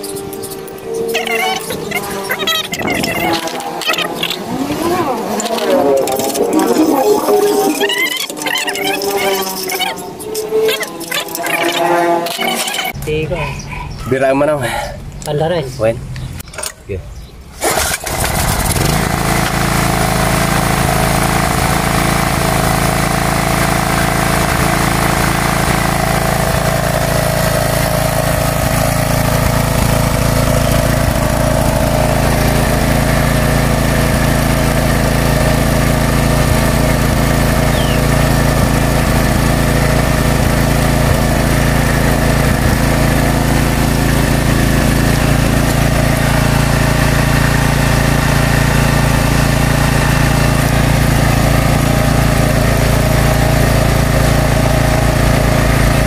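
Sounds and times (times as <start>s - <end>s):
generator engine running: 0.0s - 13.7s, 17.5s - 56.0s.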